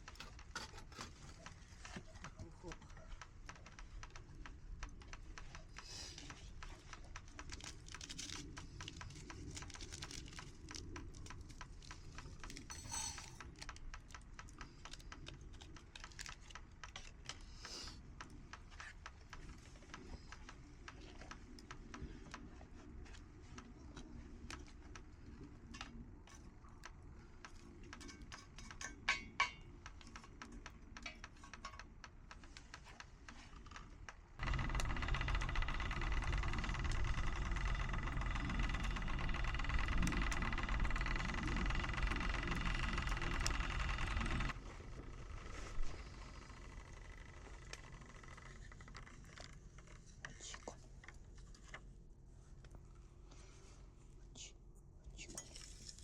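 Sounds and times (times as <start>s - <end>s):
campfire crackling: 0.0s - 49.3s.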